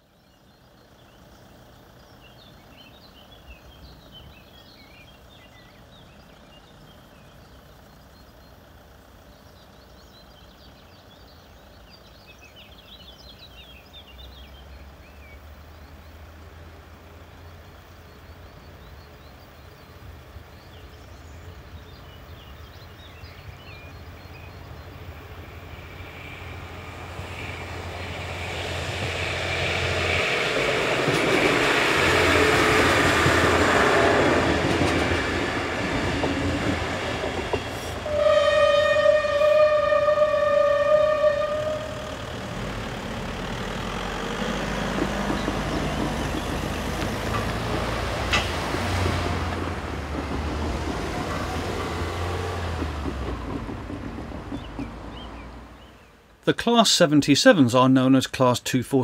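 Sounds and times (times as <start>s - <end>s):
diesel train engine hum: 0.0s - 57.5s
birds chirping: 0.0s - 59.0s.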